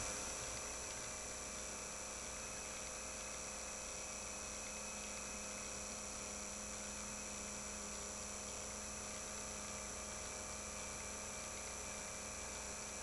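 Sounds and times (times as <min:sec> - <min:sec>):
small motor humming: 0:00.0 - 0:13.0.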